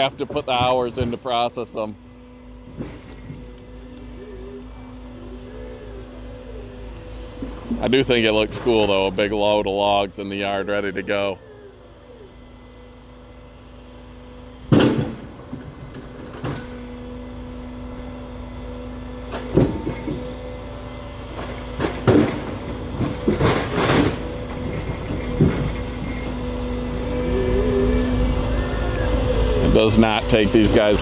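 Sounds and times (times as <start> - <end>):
log loader engine running: 0.0 - 31.0.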